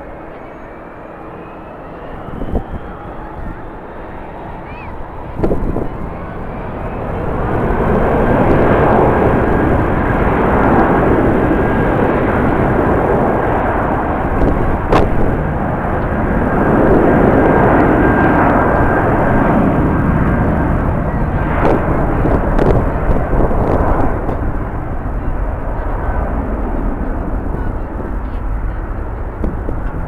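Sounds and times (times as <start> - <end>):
jet engines running: 0.0 - 30.0
wind buffeting microphone: 0.0 - 30.0.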